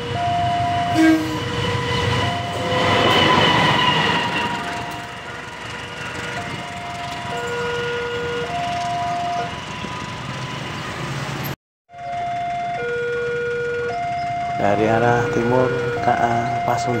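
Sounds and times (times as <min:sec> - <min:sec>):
level crossing two-tone alarm: 0:00.0 - 0:03.4, 0:04.8 - 0:10.8, 0:11.9 - 0:17.0.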